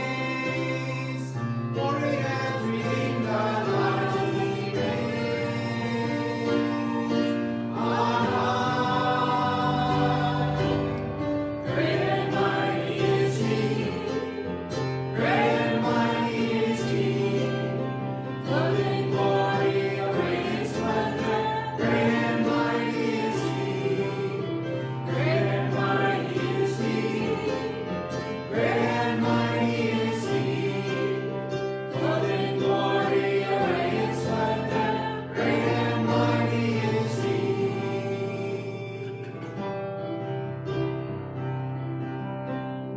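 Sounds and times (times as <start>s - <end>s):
congregation singing: 0.0s - 42.9s.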